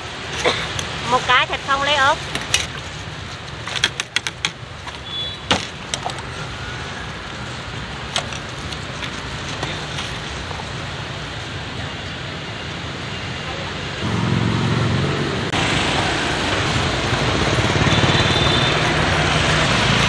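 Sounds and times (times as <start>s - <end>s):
street traffic rumbling: 0.0s - 20.0s.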